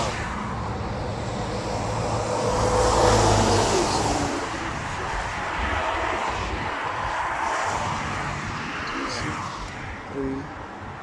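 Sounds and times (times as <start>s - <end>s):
road vehicle passing by: 0.0s - 10.4s.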